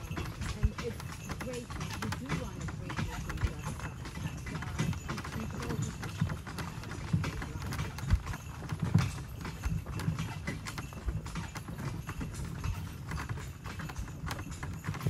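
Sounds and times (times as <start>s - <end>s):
cart rolling rumble: 0.0s - 15.0s
horse hooves clip-clopping on dirt: 0.0s - 15.0s.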